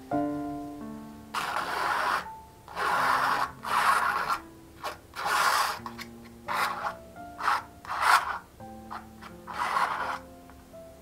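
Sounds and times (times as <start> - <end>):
palette knife scraping paint on canvas: 1.4 - 10.2.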